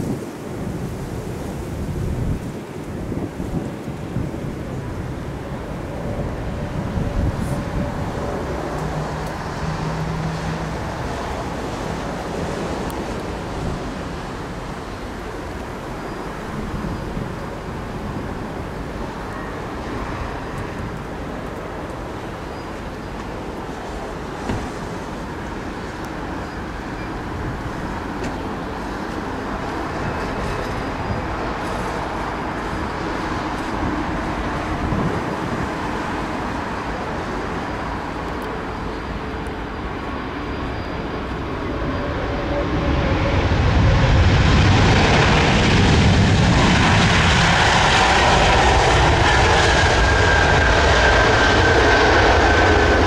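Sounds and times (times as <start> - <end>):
jet airliner landing: 0.0 - 53.0.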